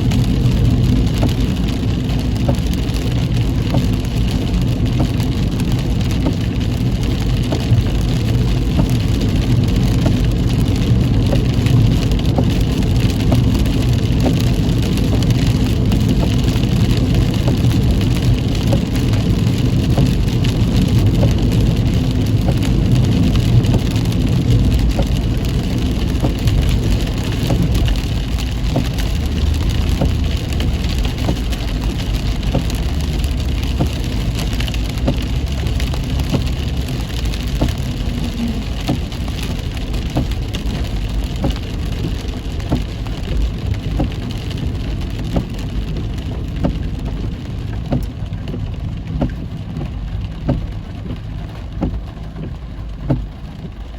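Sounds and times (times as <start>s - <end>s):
engine and road rumble: 0.0s - 53.9s
heavy rain hitting car: 0.0s - 53.9s.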